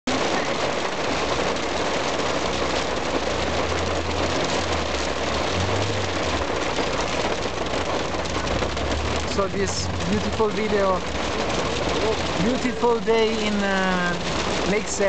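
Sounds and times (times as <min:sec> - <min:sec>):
car engine hum: 0:00.1 - 0:15.0
hail and rain hitting car: 0:00.1 - 0:15.0.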